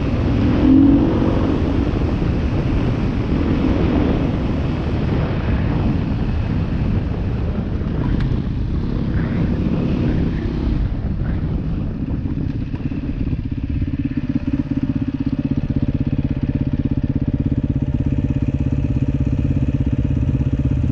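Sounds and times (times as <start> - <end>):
motorcycle engine running and idling: 0.0 - 20.9.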